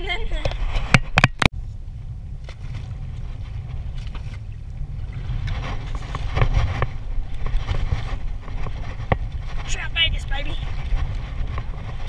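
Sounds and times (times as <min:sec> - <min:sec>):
wind rumbling on microphone: 0:00.0 - 0:12.0
water sloshing: 0:02.0 - 0:12.0.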